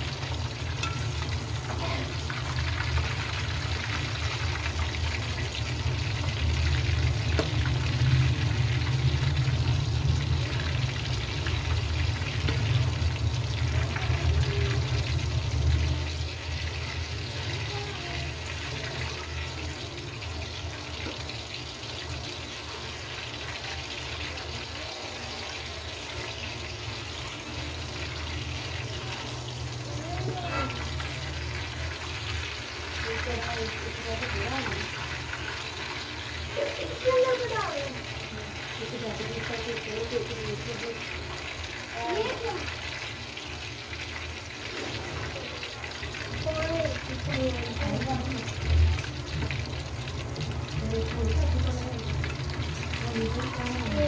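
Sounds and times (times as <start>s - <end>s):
food deep-frying in oil: 0.0s - 54.0s.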